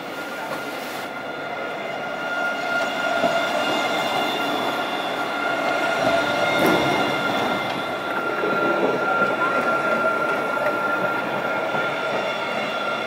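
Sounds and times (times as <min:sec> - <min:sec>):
steel wheels rumbling on rail: 0:00.0 - 0:13.0
tram high whine: 0:00.0 - 0:13.0.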